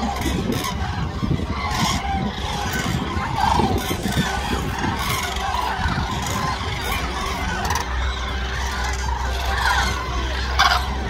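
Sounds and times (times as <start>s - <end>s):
cranes trumpeting calls: 0.0s - 11.0s
low rumble: 0.0s - 11.0s.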